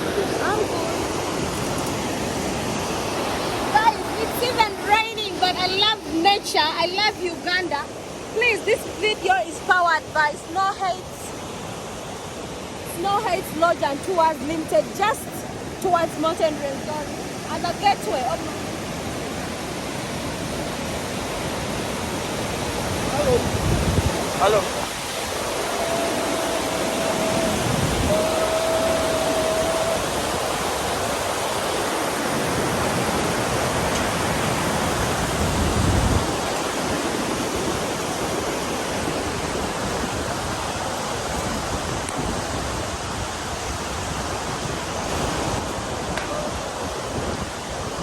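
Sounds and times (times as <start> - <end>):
fast river rushing: 0.0 - 48.0.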